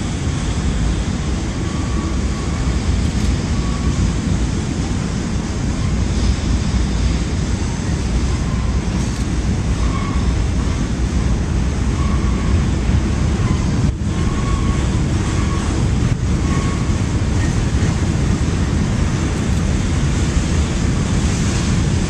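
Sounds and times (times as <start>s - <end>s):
train wheels rumbling on rail: 0.0s - 22.0s
wind buffeting microphone: 0.0s - 22.0s.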